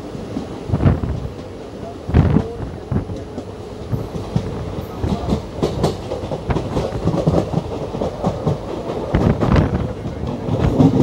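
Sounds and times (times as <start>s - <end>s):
train coach rumbling: 0.0s - 11.0s
wheels clattering over rail joints: 2.2s - 11.0s.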